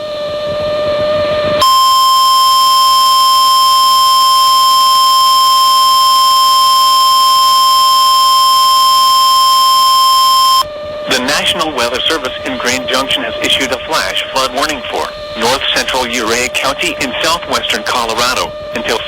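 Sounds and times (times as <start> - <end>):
low hum: 0.0 - 19.0
high-pitched alarm tone: 1.6 - 19.0.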